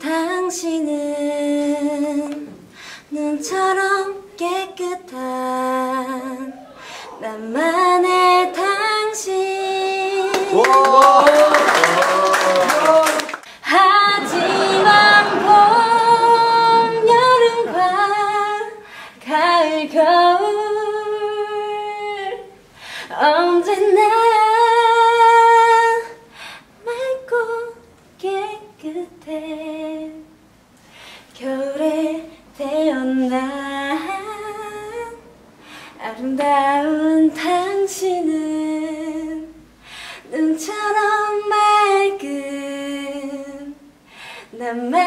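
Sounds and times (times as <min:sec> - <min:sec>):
woman singing unaccompanied: 0:00.0 - 0:02.5, 0:03.1 - 0:10.7, 0:11.3 - 0:26.2, 0:26.8 - 0:30.3, 0:31.4 - 0:35.3, 0:36.0 - 0:39.6, 0:40.3 - 0:43.9, 0:44.5 - 0:45.0.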